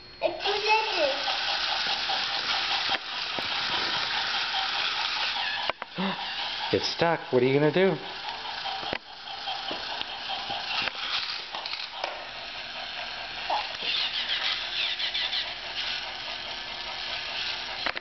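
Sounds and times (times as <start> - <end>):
toy train mechanism whirring: 0.0 - 18.0.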